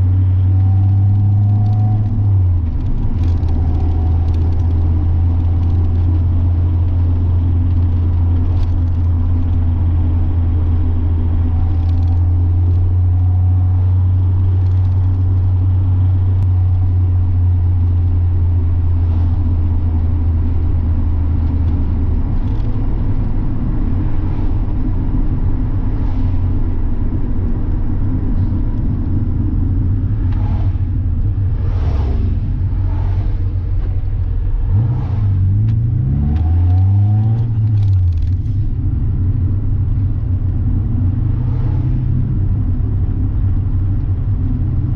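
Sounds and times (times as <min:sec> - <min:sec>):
car engine and exhaust droning: 0:00.0 - 0:44.9.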